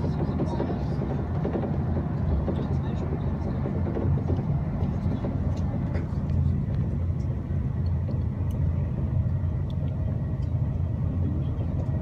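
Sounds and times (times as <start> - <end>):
train rumble from inside car: 0.0 - 12.0.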